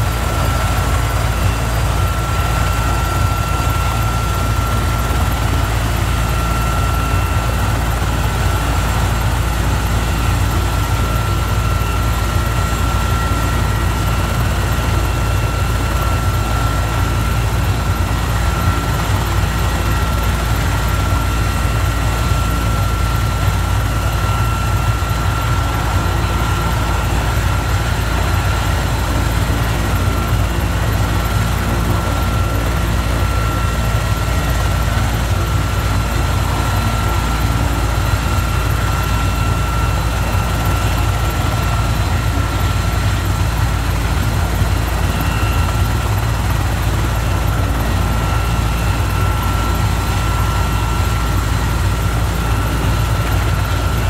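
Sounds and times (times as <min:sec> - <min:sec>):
helicopter rotor and turbine: 0:00.0 - 0:54.0
high turbine whine: 0:00.0 - 0:54.0.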